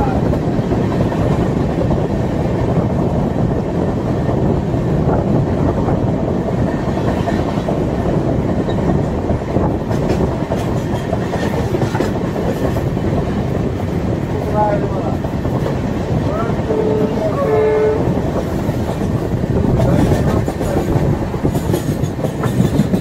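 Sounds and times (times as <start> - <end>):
rails clicking: 0.0 - 23.0
train wheels rumbling: 0.0 - 23.0.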